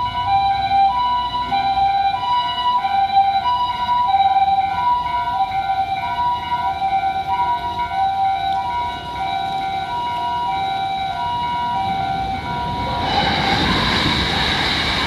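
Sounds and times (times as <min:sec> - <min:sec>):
low road traffic rumble: 0:00.0 - 0:15.0
two-tone ambulance siren: 0:00.0 - 0:15.0.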